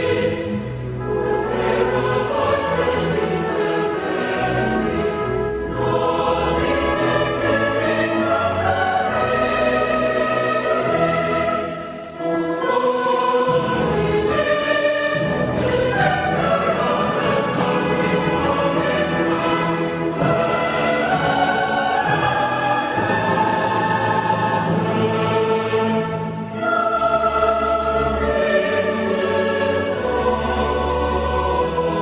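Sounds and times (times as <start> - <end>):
choir singing long chords: 0.0 - 32.0
orchestra playing: 0.0 - 32.0.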